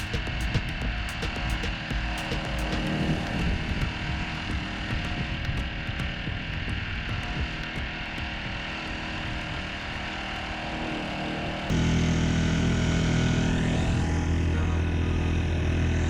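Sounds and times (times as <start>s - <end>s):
small trimmer engine running: 0.0s - 16.0s.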